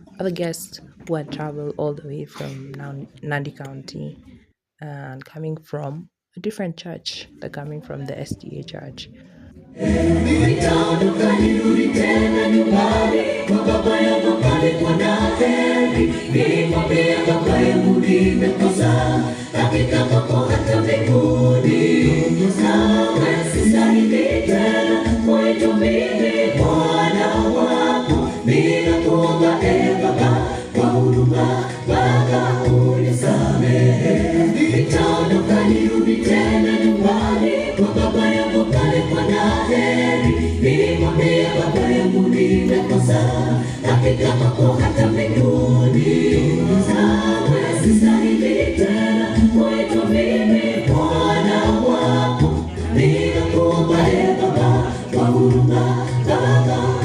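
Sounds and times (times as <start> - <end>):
choir singing gospel song: 9.7 - 57.0.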